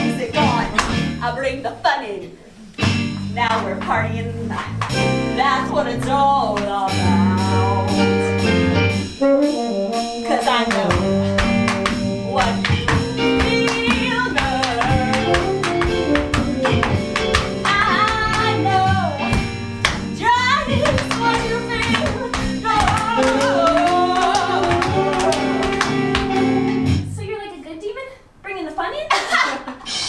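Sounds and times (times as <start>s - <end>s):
flamenco-like dance music: 0.0s - 1.4s, 2.8s - 9.2s, 10.0s - 27.2s.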